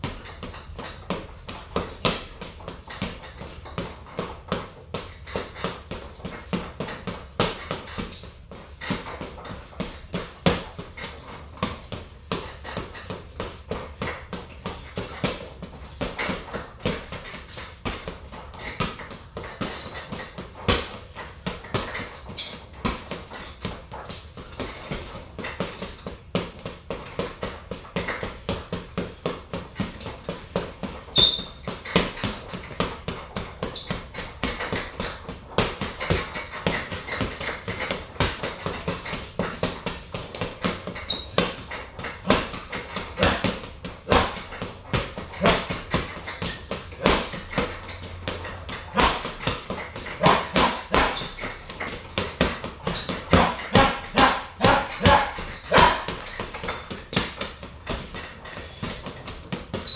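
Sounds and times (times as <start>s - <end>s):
gloves thudding on punching bag: 0.0s - 59.9s.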